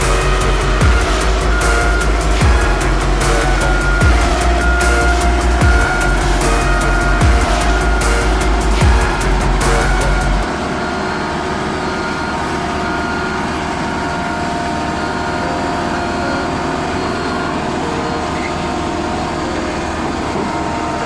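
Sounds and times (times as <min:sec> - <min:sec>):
construction machinery engines droning: 0:00.0 - 0:21.0.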